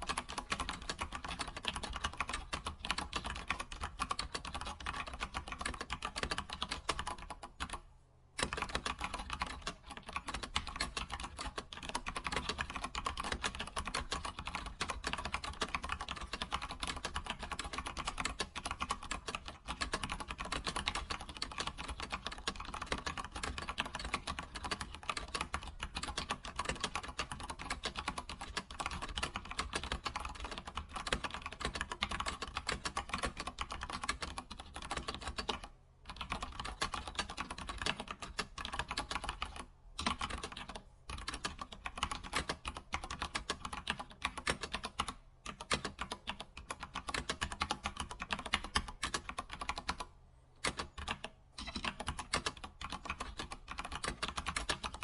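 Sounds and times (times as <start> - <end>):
fast typing on keyboard: 0.0 - 7.8, 8.4 - 55.0.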